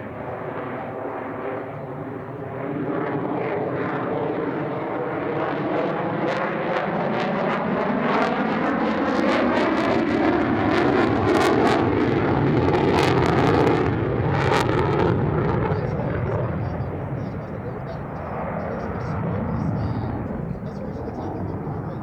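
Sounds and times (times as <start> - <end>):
jet engine in flight: 0.0 - 22.0.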